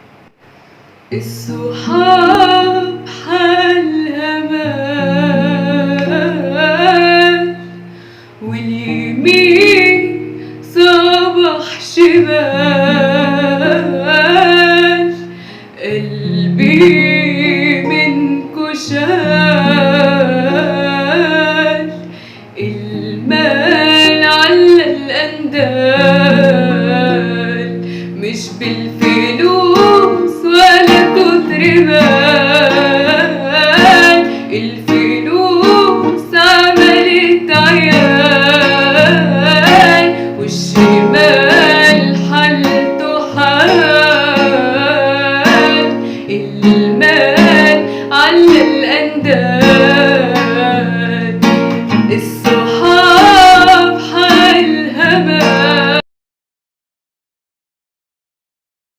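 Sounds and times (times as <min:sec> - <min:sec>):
strummed string instrument: 0:01.1 - 0:56.0
person singing ornamented melody: 0:08.4 - 0:56.0.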